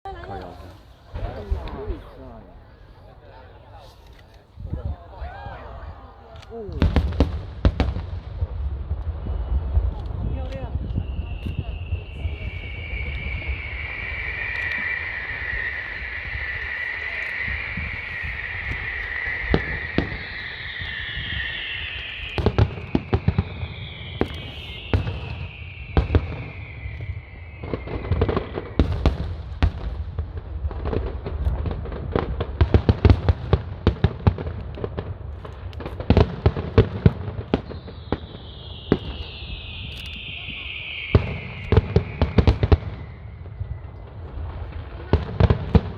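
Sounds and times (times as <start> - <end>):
firework bangs and crackling: 0.0 - 45.9
firework whistles: 0.1 - 45.9.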